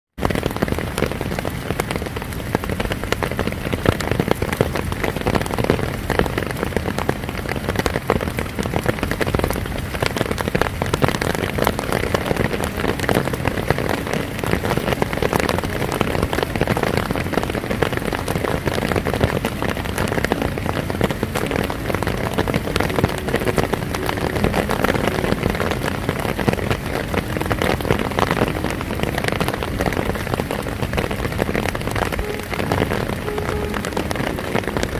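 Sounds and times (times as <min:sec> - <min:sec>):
heavy rain on hard surface: 0:00.1 - 0:34.9.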